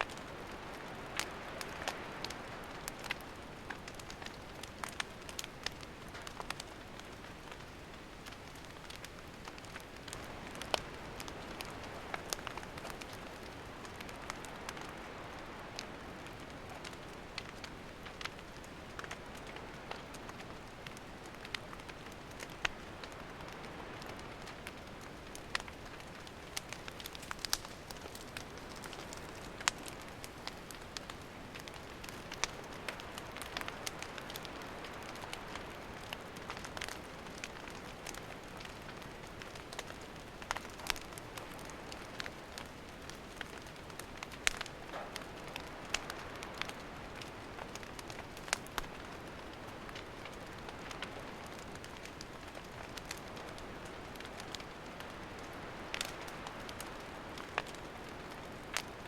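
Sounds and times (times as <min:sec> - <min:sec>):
campfire crackling and popping: 0:00.0 - 0:59.0
soft fire hiss: 0:00.0 - 0:59.0.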